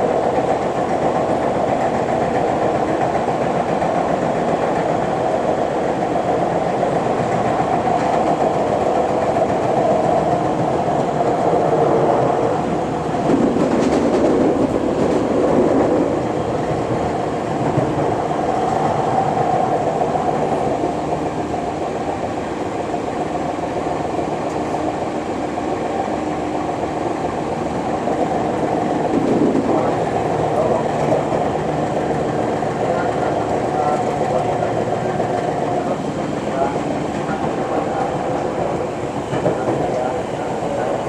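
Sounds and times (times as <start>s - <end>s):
train motor hum: 0.0s - 41.0s
train running gear rumble: 0.0s - 41.0s.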